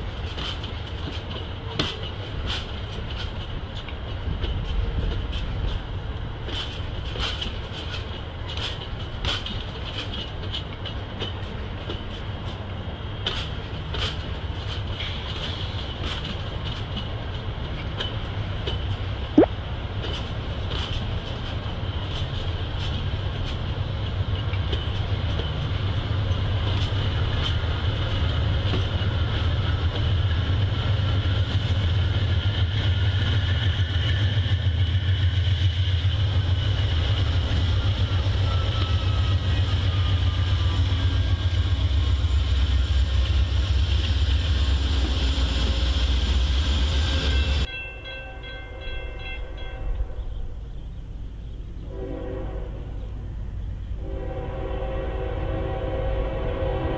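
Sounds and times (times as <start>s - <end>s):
passenger train passing: 0.0s - 56.9s.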